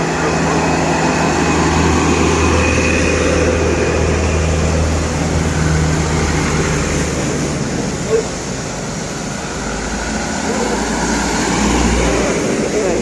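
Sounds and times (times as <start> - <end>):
truck engine passing: 0.0 - 13.0.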